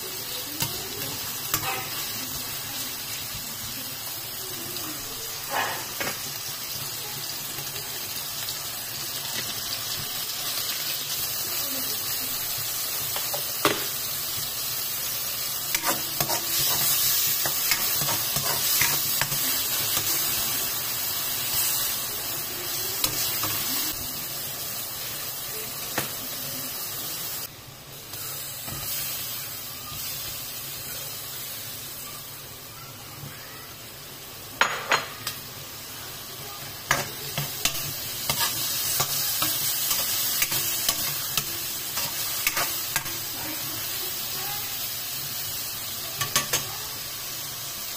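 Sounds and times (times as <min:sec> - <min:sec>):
vegetables sizzling in oil: 0:00.0 - 0:47.9.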